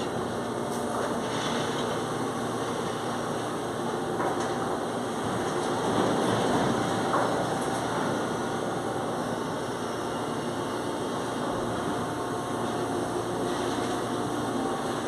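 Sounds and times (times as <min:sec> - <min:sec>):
machinery drone: 0:00.0 - 0:15.0.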